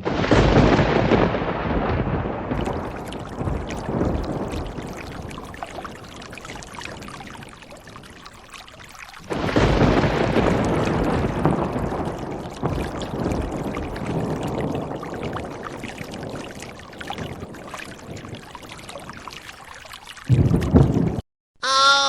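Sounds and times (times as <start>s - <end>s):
rushing pouring noise: 0.0s - 21.2s.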